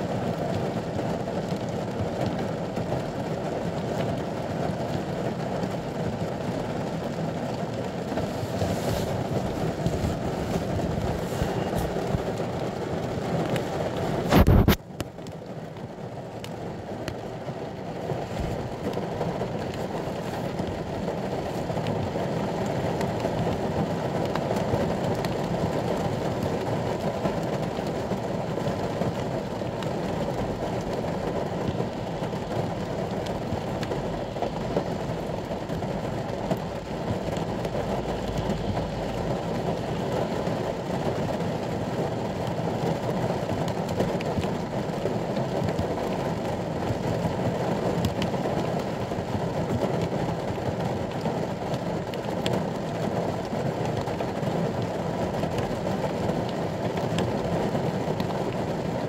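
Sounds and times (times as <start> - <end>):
rain on a vehicle roof: 0.0 - 59.0.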